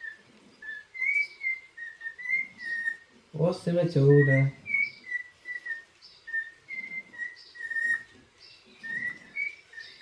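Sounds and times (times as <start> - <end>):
bird whistling a tune: 0.0 - 3.0, 4.2 - 8.1, 8.8 - 10.0.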